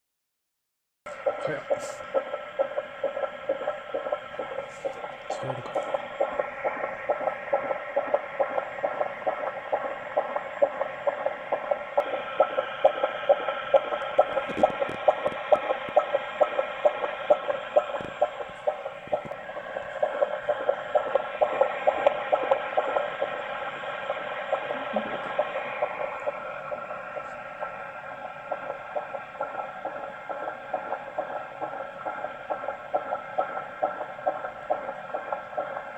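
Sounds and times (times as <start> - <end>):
fetal heartbeat through doppler speaker: 1.1 - 35.9.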